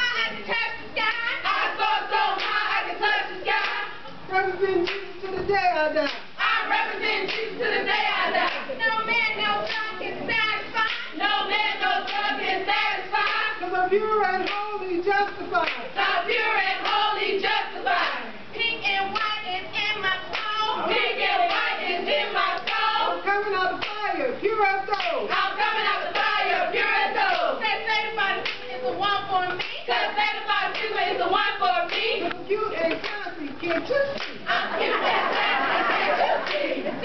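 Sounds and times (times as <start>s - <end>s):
women chanting and singing: 0.0s - 37.0s.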